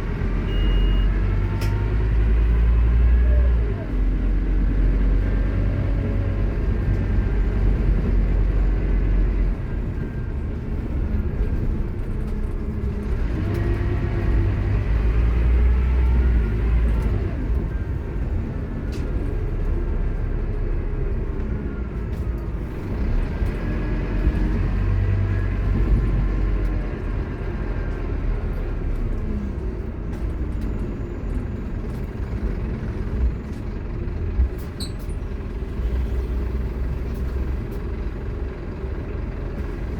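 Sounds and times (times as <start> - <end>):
bus engine rumbling: 0.0 - 39.9.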